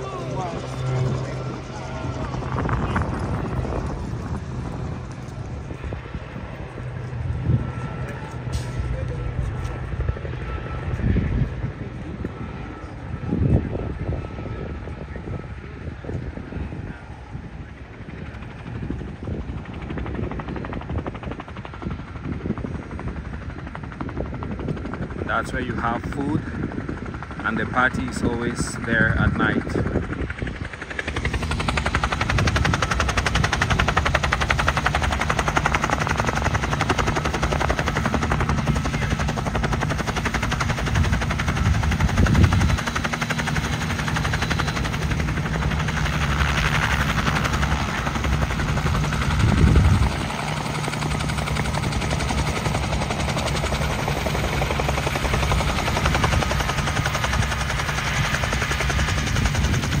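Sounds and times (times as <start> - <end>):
helicopter rotor chop: 0.0 - 60.0.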